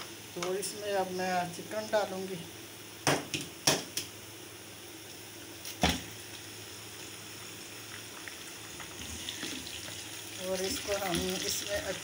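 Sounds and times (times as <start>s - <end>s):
chicken sizzling in a pan: 0.0s - 12.0s
onions sizzling in hot oil: 0.0s - 12.0s.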